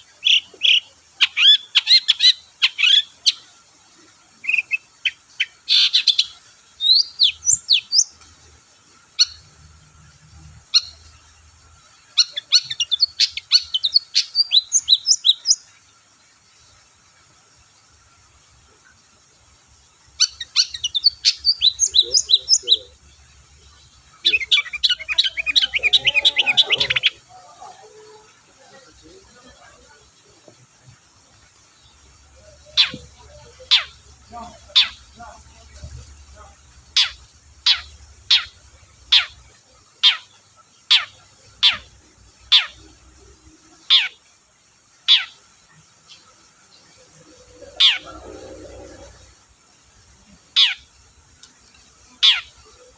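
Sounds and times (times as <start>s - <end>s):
bird chattering song: 0.0s - 8.2s, 9.0s - 9.6s, 10.6s - 15.9s, 20.0s - 49.8s, 50.4s - 52.9s.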